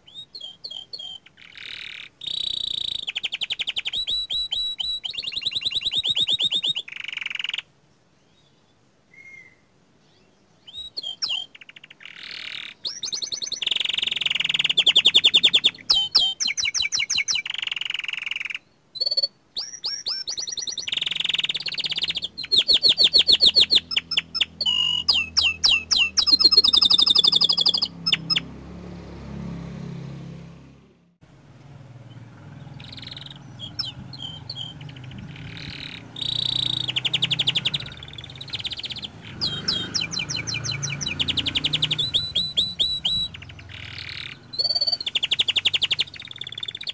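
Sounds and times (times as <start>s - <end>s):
canary singing trills: 0.0s - 28.8s, 32.0s - 46.9s.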